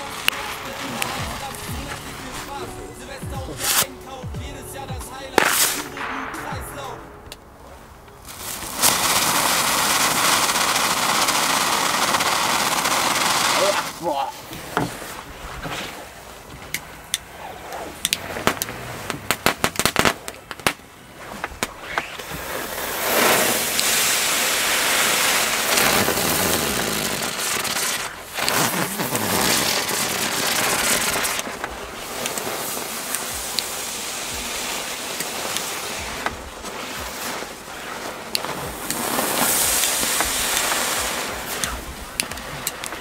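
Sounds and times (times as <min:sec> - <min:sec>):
firework cracks and pops: 0:00.0 - 0:43.0
hiss of burning fireworks: 0:00.0 - 0:43.0.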